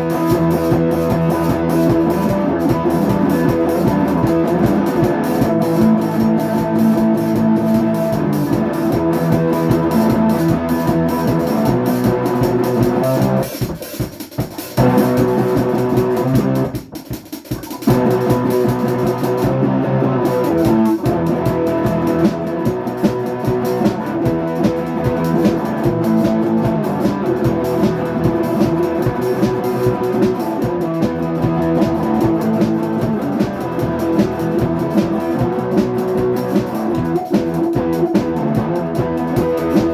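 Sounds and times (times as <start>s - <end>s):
rock music on guitar and drums: 0.0s - 39.9s.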